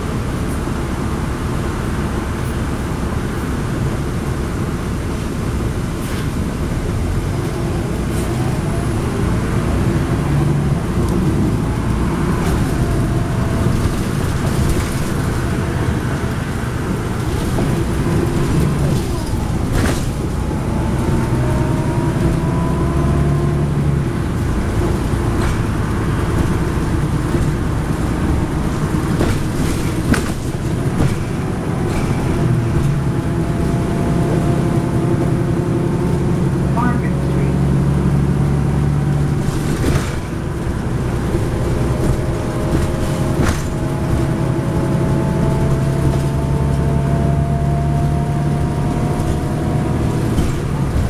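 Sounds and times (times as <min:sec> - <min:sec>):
bus diesel engine drone: 0:00.0 - 0:51.0
road noise: 0:00.0 - 0:51.0.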